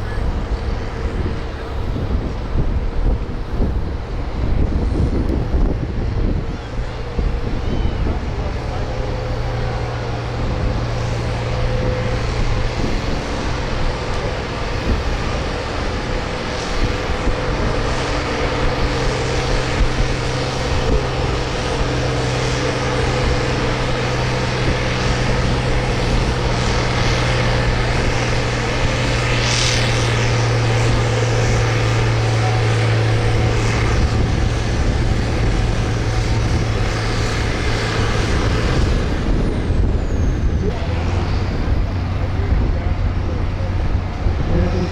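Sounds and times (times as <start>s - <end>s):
tractor engine at high revs: 0.0s - 44.9s.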